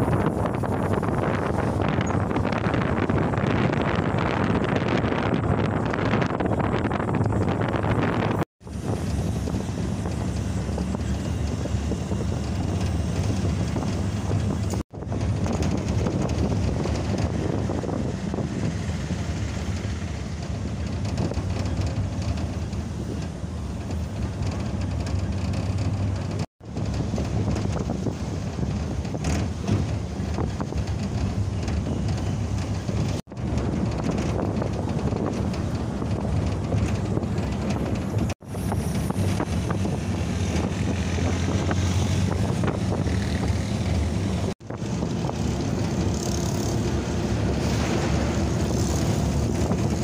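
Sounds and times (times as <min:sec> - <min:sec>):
road and wind rumble: 0:00.0 - 0:50.0.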